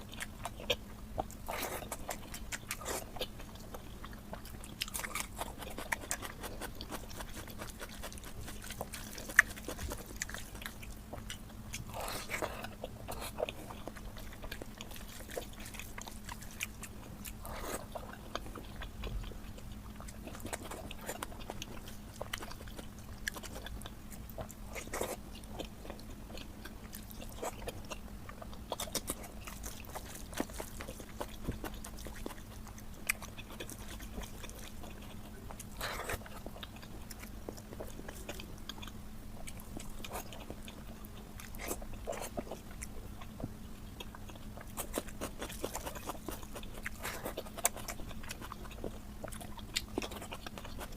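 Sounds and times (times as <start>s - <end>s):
person chewing with wet mouth noises: 0.0s - 50.9s.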